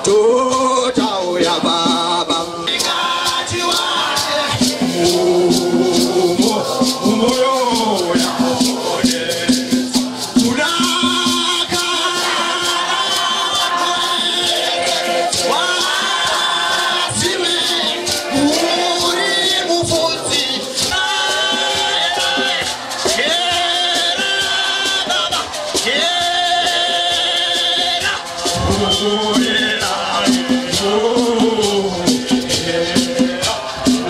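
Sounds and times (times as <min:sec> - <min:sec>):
hand shakers rhythm: 0:00.0 - 0:34.0
men singing gospel song: 0:00.0 - 0:34.0.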